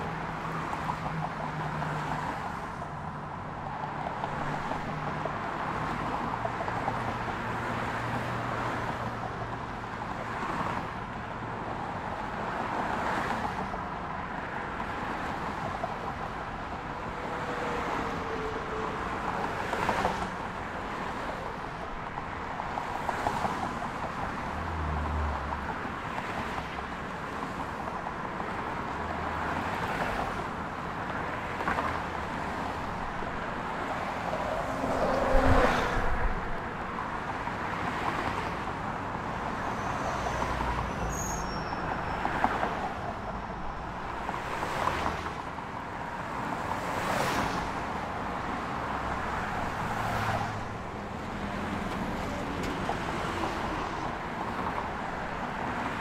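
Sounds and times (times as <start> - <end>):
cars passing on highway: 0.0 - 56.0.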